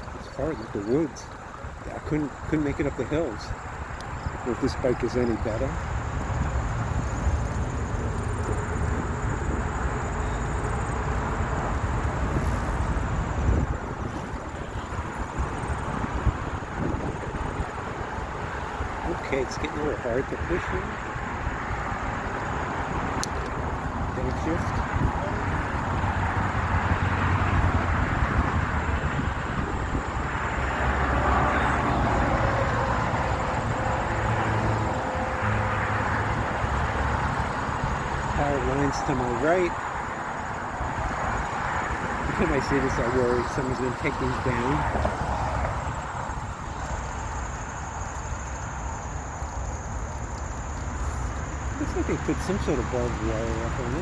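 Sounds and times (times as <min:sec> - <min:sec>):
highway traffic rumble: 0:00.0 - 0:54.0
wind buffeting microphone: 0:00.0 - 0:54.0.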